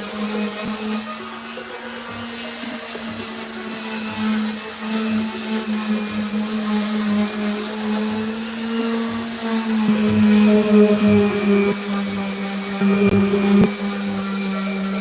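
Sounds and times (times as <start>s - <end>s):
power sander on wood: 0.0s - 15.0s.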